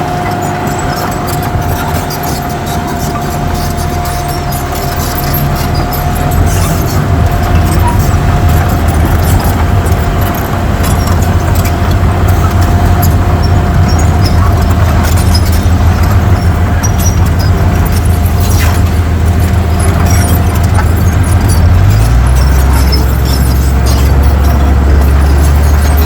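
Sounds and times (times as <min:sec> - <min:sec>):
clicks and rattles: 0:00.0 - 0:26.0
heavy diesel engine running: 0:00.0 - 0:26.0.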